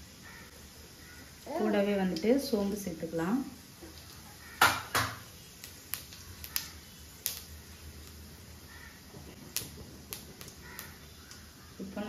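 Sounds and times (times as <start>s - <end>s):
seeds crackling in hot oil: 0.0s - 12.0s.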